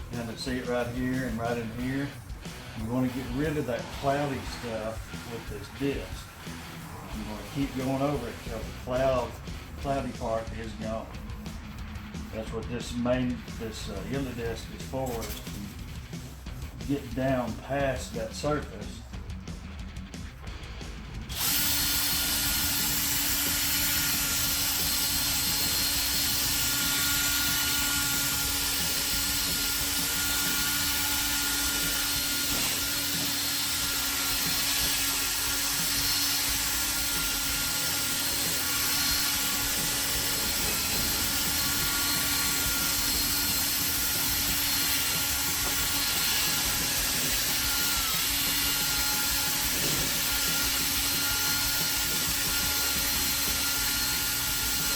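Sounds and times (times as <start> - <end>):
electric drill sanding plastic: 0.0 - 18.6, 21.3 - 54.9.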